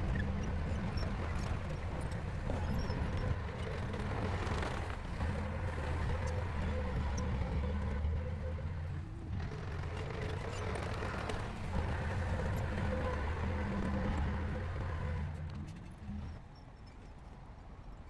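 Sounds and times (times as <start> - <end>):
heavy diesel engine rumbling: 0.0 - 16.3.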